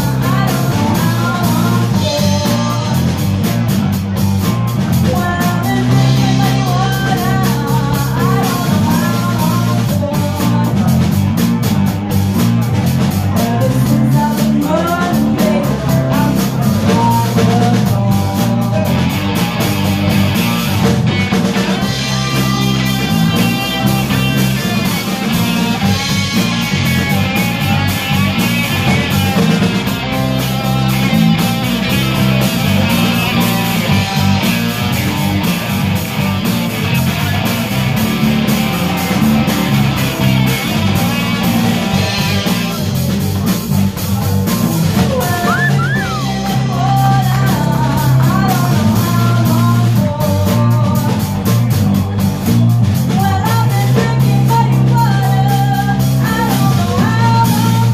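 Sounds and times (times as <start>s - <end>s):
bass guitar: 0.0s - 57.9s
drum kit: 0.0s - 57.9s
electric guitars: 0.0s - 57.9s.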